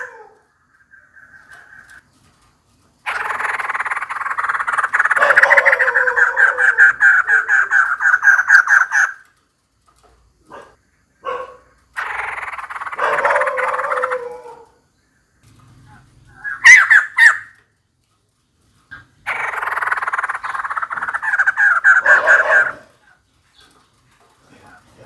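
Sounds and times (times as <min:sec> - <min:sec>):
bird rattling chatter: 0:00.0 - 0:25.0.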